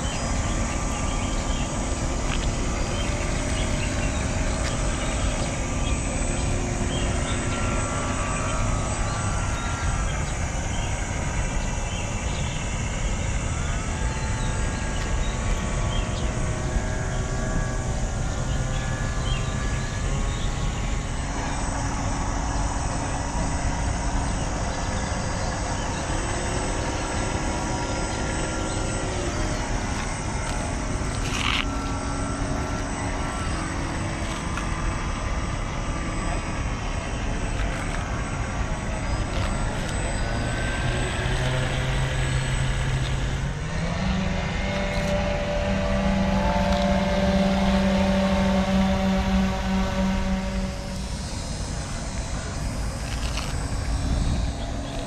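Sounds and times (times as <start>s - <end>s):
model boat motors whining: 0.0s - 55.0s
steady low rumble: 0.0s - 55.0s.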